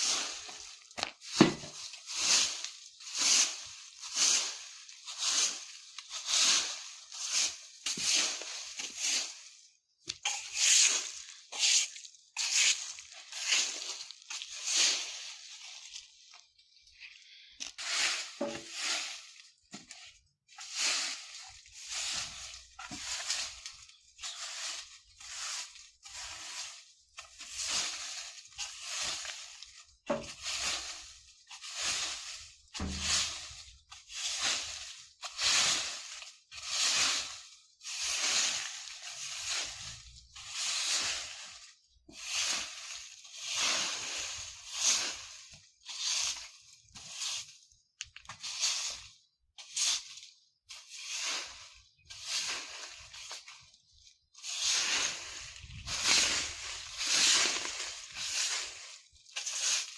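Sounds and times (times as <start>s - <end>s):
broom sweeping dry leaves: 0.0s - 59.9s.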